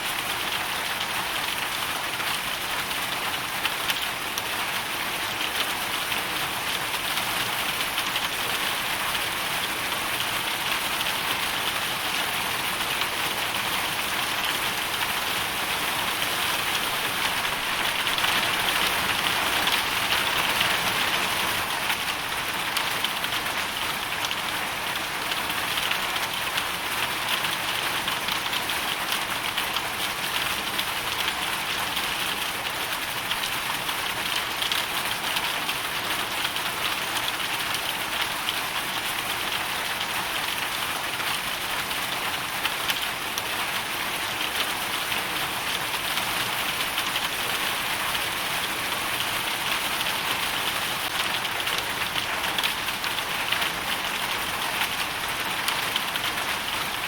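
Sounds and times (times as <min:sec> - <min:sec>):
hail and rain striking surfaces: 0:00.1 - 0:57.0.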